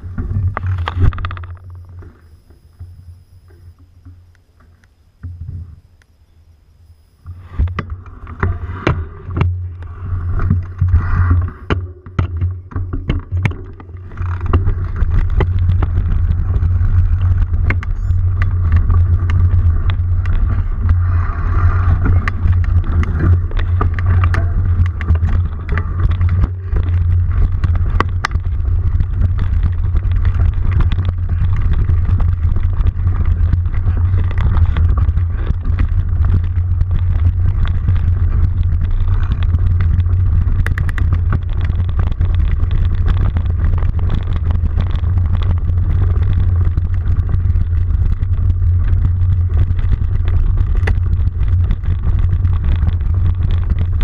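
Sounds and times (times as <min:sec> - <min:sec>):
bike riding low rumble: 0:00.0 - 0:54.0
bike knocks and rattles: 0:10.3 - 0:54.0.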